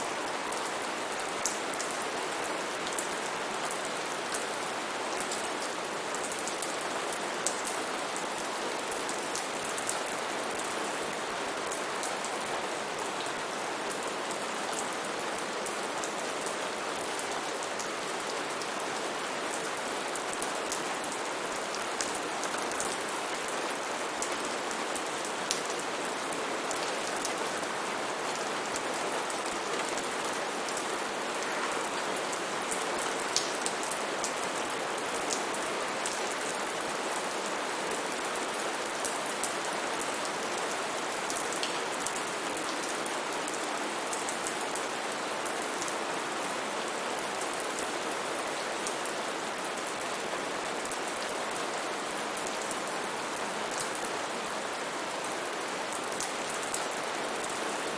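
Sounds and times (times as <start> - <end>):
rain falling on foliage: 0.0 - 57.9.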